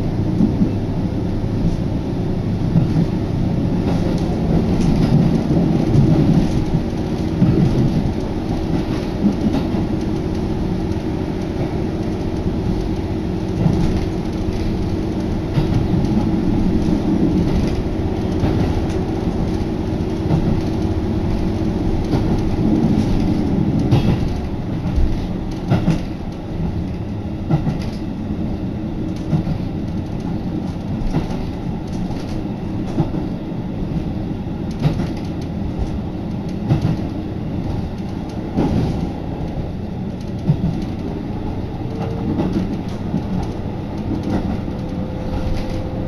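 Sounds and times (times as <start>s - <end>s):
train rumbling on rails: 0.0s - 46.0s
rail joints clacking: 1.5s - 46.0s.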